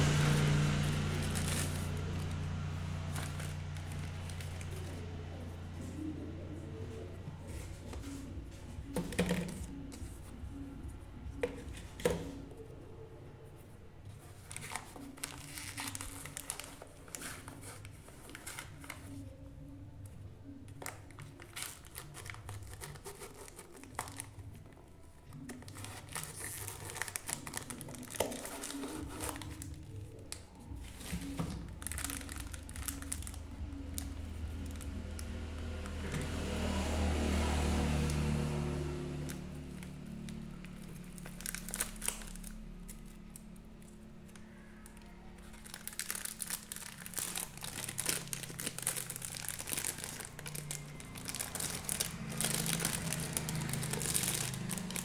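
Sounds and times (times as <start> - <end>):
packaging crinkling and tearing: 0.0 - 6.1, 14.2 - 19.3, 20.7 - 55.0.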